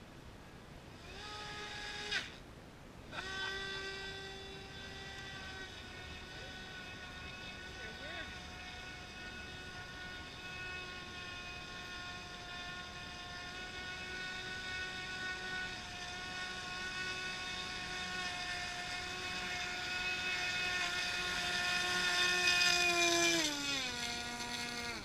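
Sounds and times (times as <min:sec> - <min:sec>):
model boat motor whining: 0:01.0 - 0:02.4, 0:03.1 - 0:25.0.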